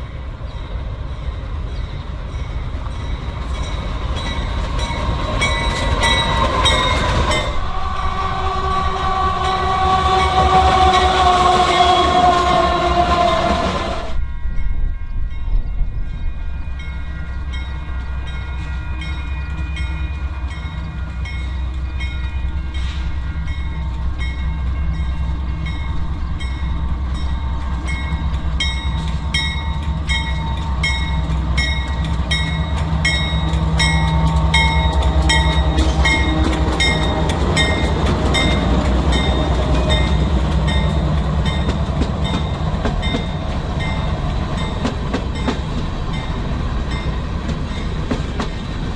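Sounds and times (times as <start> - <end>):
freight train rumble: 0.0 - 48.9.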